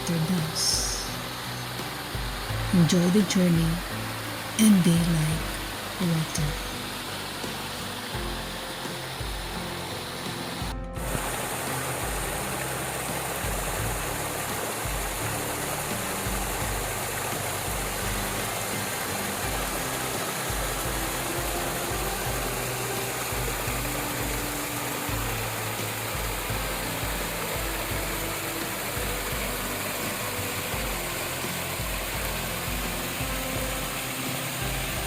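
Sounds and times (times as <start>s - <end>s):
creek water flowing: 0.0s - 35.0s
soft background music: 0.0s - 35.0s.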